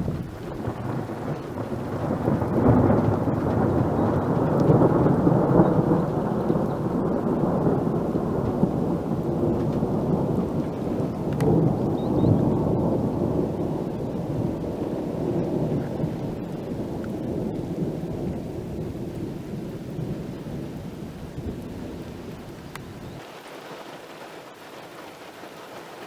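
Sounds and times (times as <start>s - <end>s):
thunder rumbling: 0.0s - 23.3s.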